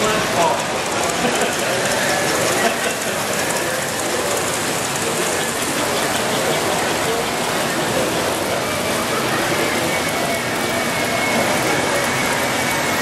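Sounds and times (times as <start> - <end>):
crowd hubbub in a hall: 0.0 - 13.0
model trains clattering on track: 0.0 - 13.0.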